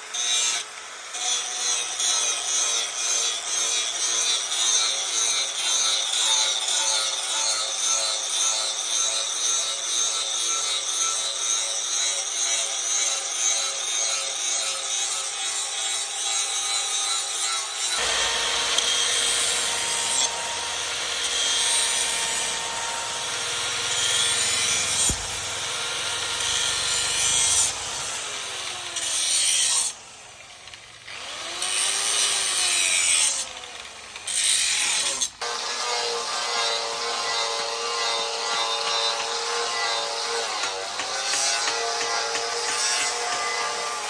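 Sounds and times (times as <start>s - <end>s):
power tool sanding: 0.0s - 44.0s.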